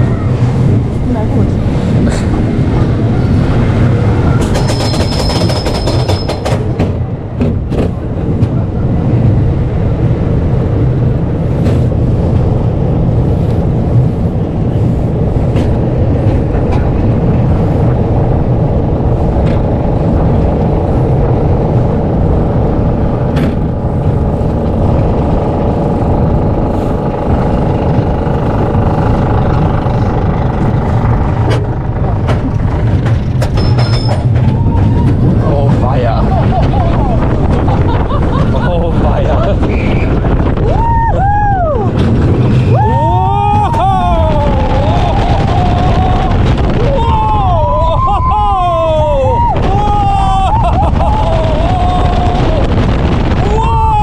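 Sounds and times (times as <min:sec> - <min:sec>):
roller coaster chain lift rumble: 0:00.0 - 0:54.0.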